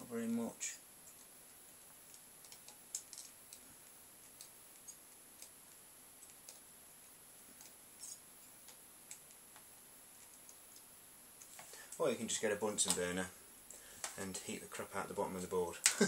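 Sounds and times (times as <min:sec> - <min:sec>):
solder clicks and crackles: 0:00.8 - 0:14.2.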